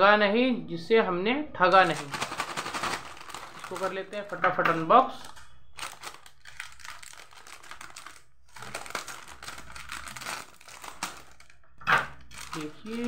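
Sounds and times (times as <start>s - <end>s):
plastic packet crinkling: 1.7s - 13.0s.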